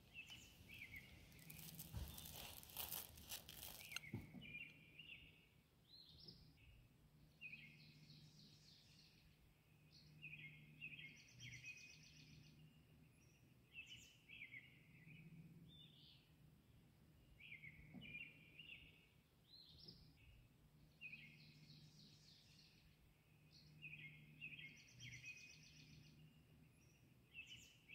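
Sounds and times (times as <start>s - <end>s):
faint birdsong: 0.0s - 27.9s.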